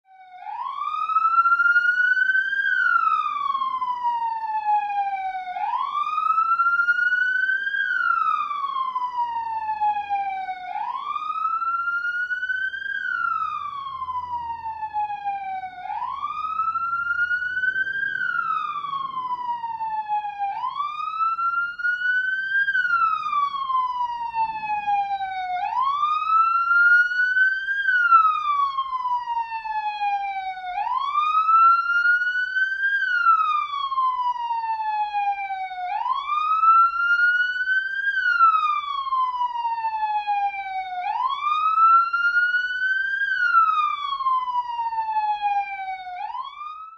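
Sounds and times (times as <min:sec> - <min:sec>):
police siren wailing: 0:00.0 - 0:46.9.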